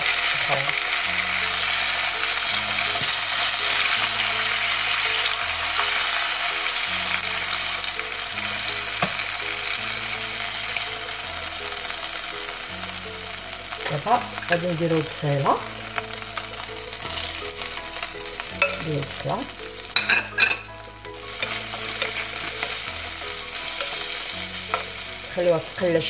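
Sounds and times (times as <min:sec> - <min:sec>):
chicken wings sizzling in oil: 0:00.0 - 0:26.0
soft background music: 0:00.0 - 0:26.0.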